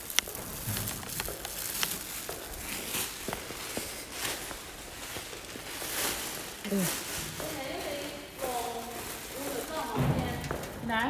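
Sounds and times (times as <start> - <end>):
dry tea leaves rustling: 0.0 - 11.0
plastic crinkling: 0.0 - 11.0.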